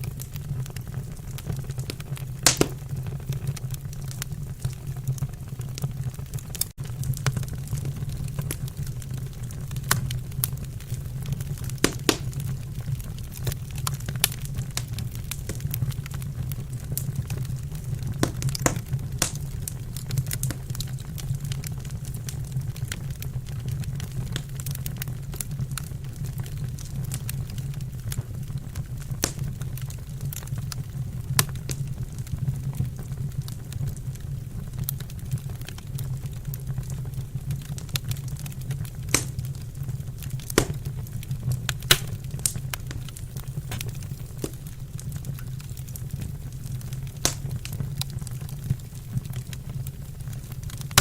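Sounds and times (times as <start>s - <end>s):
low fire rumble: 0.0s - 51.0s
wood fire crackling and popping: 0.0s - 51.0s.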